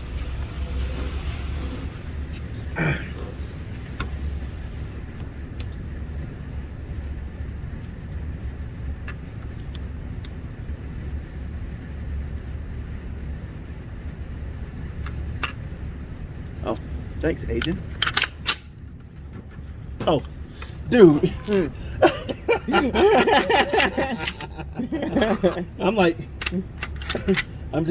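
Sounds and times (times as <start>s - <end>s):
low background rumble: 0.0s - 27.9s.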